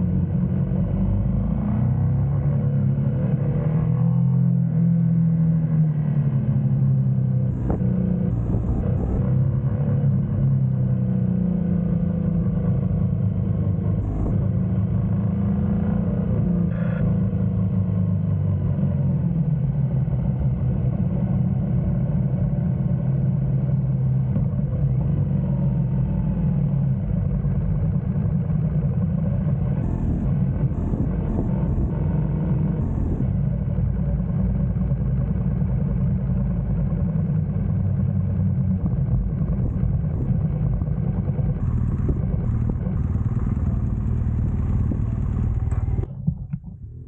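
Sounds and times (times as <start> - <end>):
motorcycle engine running: 0.0 - 21.6, 22.3 - 47.0.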